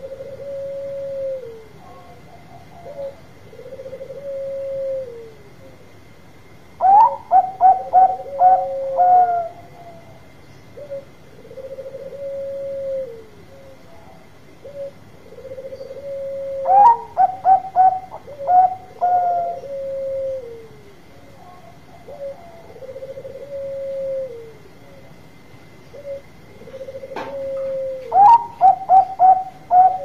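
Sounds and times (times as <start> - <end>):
dove cooing: 0.0 - 6.0, 6.8 - 30.0.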